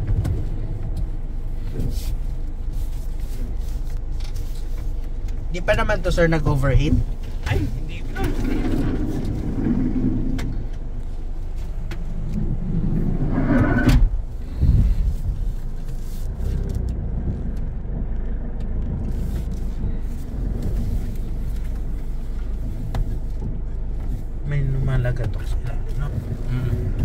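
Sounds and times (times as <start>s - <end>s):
diesel van engine idling: 0.0s - 27.0s.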